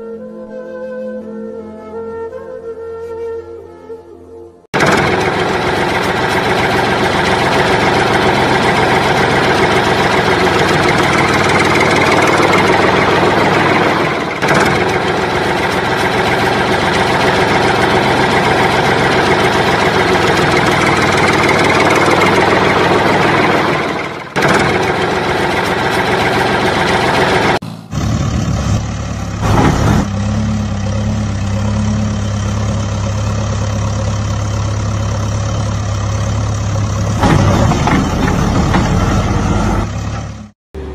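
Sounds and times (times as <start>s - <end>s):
heavy truck engine: 4.8s - 40.9s.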